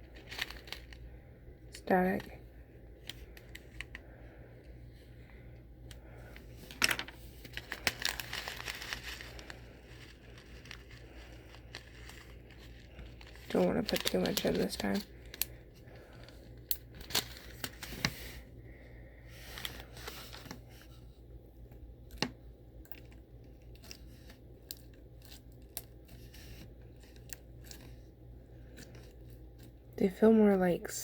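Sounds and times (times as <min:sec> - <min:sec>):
low fan hum: 0:00.0 - 0:31.0.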